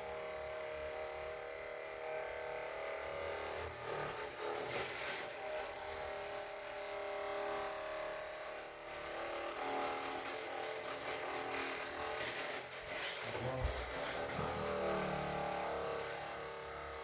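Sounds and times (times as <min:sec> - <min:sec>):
massage gun motor whir: 0:00.0 - 0:17.0.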